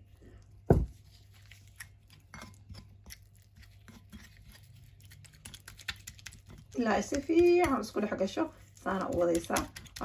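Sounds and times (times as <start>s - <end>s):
fork mashing wet food: 0.8s - 10.0s.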